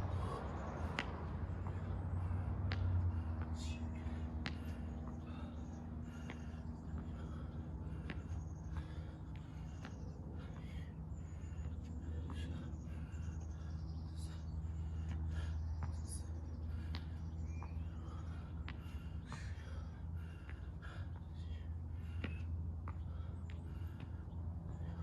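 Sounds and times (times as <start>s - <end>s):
person breathing heavily: 0.0s - 25.0s.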